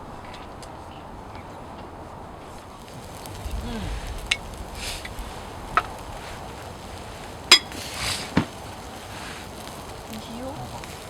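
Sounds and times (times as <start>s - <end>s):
soft rustling: 0.4s - 11.0s.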